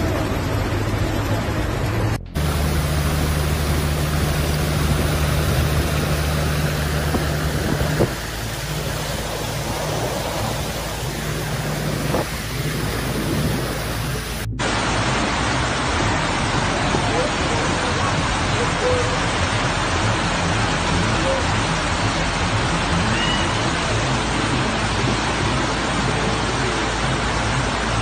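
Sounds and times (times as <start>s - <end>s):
floodwater rushing along road: 0.0s - 28.0s
low steady hum: 0.0s - 28.0s.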